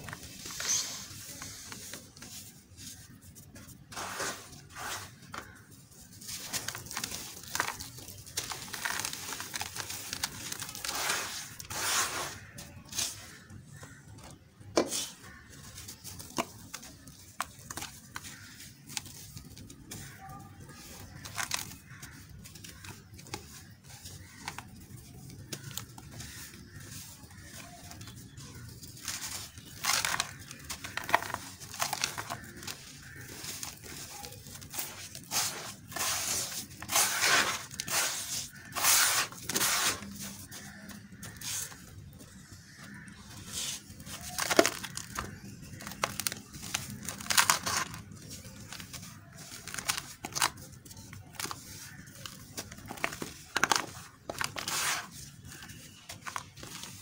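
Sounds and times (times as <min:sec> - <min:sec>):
hands crumbling gritty dirt: 0:00.0 - 0:57.0.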